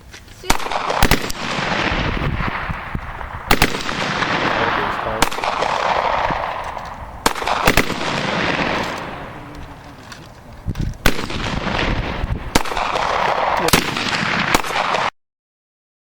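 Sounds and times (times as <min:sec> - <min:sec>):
rifle shots with rolling echo: 0:00.4 - 0:15.1.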